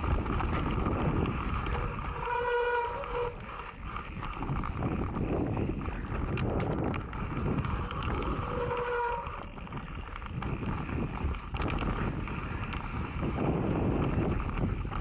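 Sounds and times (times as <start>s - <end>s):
bike knocking and rattling: 0.0s - 15.0s
mountain bike rolling on rocky trail: 0.0s - 15.0s
wind buffeting microphone: 0.0s - 15.0s.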